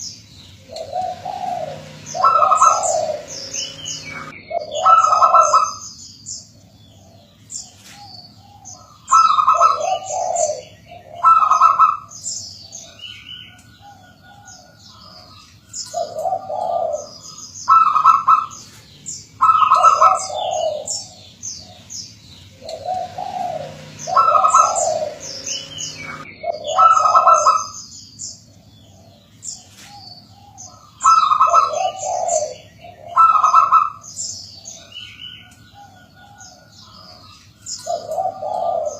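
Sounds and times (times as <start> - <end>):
dove cooing: 0.0 - 5.9, 6.6 - 27.8, 28.5 - 38.9
small birds chirping: 0.0 - 38.9.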